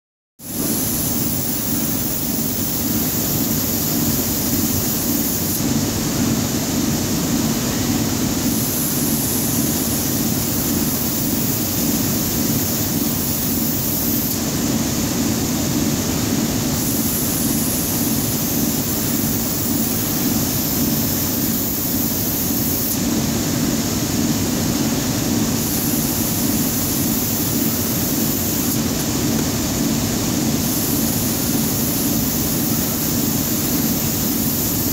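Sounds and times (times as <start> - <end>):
machinery whirring with low hum: 0.4 - 34.9.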